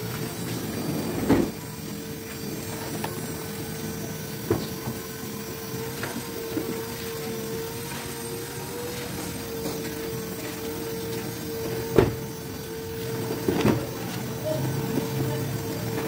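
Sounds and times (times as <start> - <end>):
small motor humming: 0.0 - 16.0.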